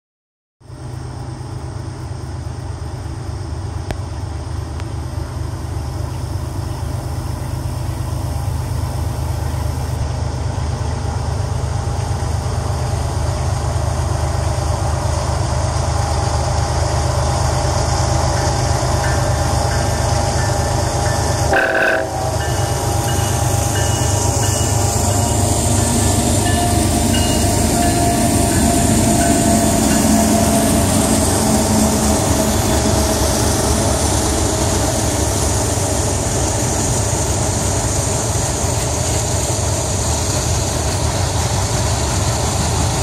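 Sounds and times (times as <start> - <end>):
diesel locomotive engine rumble: 0.6 - 43.0.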